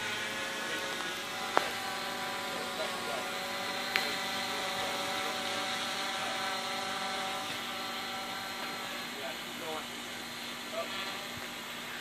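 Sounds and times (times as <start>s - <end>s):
quadcopter propellers buzzing: 0.0s - 12.0s.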